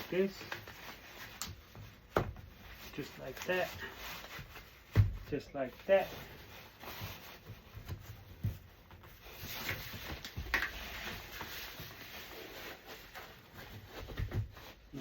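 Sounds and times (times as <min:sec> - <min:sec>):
rubbing sounds: 0:00.0 - 0:15.0
rustling and light knocks: 0:00.0 - 0:15.0.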